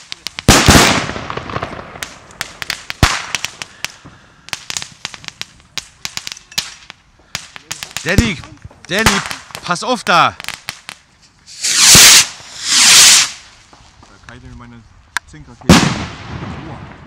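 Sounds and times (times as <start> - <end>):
firecracker cracks: 0.0 - 14.2, 15.2 - 17.0
fireworks bang with crackling: 0.0 - 14.3, 15.6 - 17.0.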